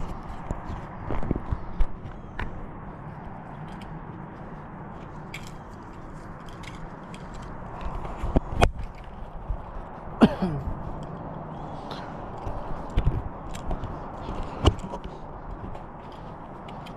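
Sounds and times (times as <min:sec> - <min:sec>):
footsteps on a trail: 0:00.0 - 0:16.9.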